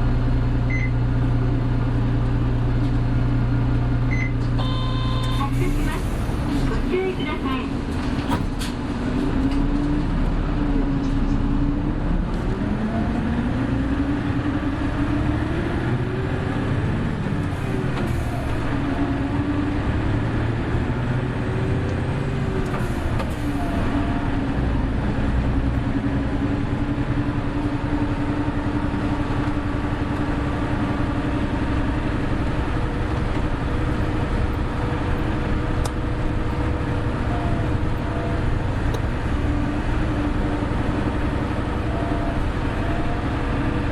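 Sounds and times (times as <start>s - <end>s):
bus drivetrain hum: 0.0s - 43.9s
road rumble: 0.0s - 43.9s.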